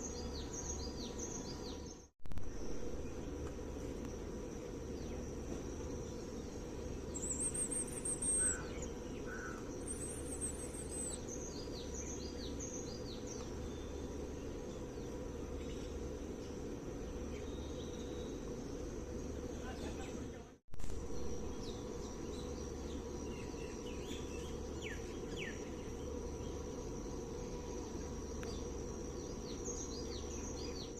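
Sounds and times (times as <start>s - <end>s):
high insect buzz: 0.0s - 30.9s
small birds chirping: 0.0s - 30.9s.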